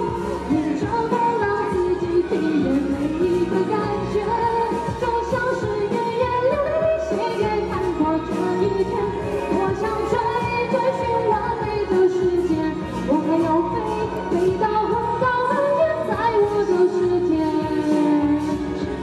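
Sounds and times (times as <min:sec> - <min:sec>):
backing track music: 0:00.0 - 0:19.0
woman singing into microphone: 0:00.0 - 0:19.0.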